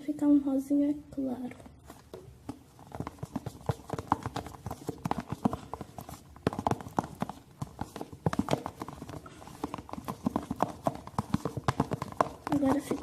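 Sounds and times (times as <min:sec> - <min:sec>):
spoon stirring thick slime: 0:01.8 - 0:13.0.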